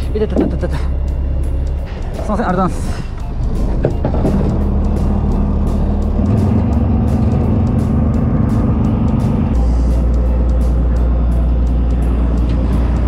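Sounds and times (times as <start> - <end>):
boat engine low drone: 0.0 - 13.0
higher hum: 0.0 - 13.0.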